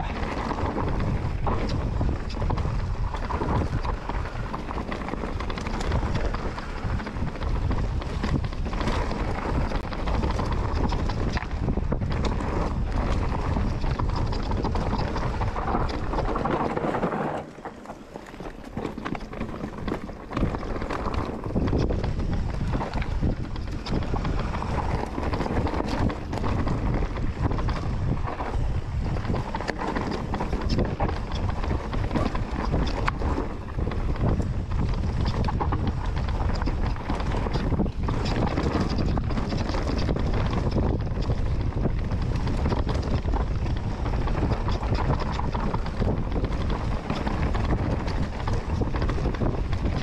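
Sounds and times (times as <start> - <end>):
bike knocks and rattles: 0.0 - 50.0
wind buffeting microphone: 0.0 - 50.0.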